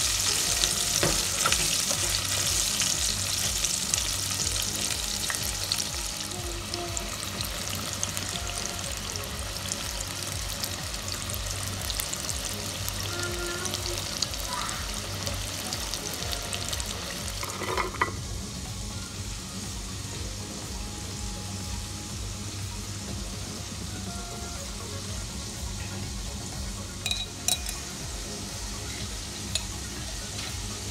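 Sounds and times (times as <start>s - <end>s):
chicken sizzling in hot oil: 0.0s - 30.9s.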